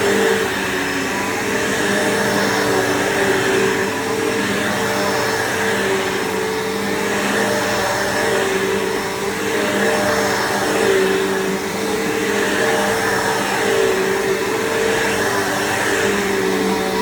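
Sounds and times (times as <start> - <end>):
upright vacuum running: 0.0 - 17.0.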